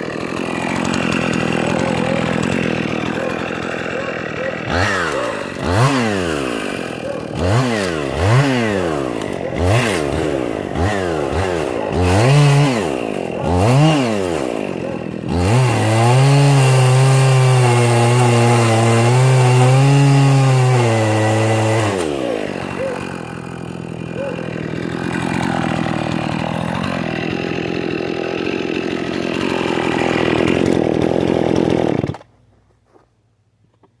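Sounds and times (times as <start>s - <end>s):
chainsaw revving: 0.0s - 32.3s.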